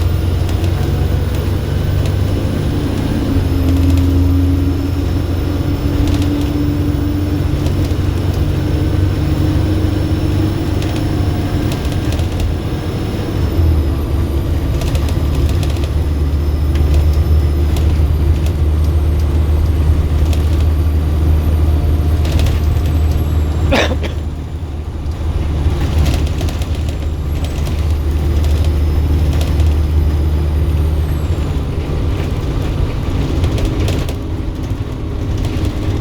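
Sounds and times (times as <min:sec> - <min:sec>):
bus diesel engine drone: 0:00.0 - 0:36.0
rattles and clicks: 0:00.0 - 0:36.0.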